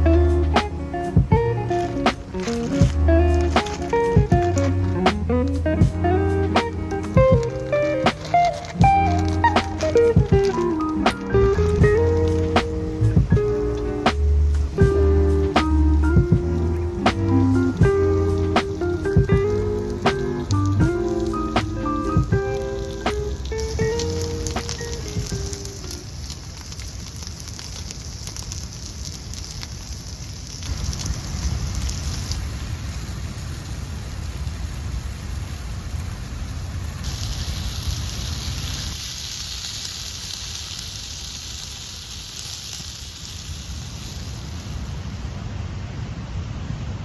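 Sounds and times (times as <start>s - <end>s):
steady rain: 0.0s - 47.0s.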